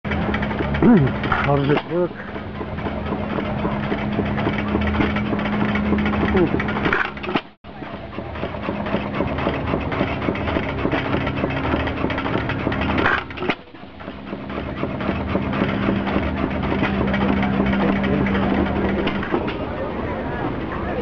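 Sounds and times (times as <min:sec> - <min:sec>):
low steady hum: 0:00.1 - 0:21.0
stationary engine idling: 0:00.1 - 0:21.0.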